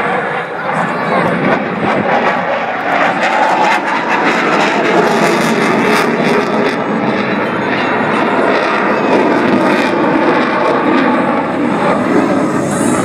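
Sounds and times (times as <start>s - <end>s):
jet fighter flying overhead: 0.0s - 13.0s.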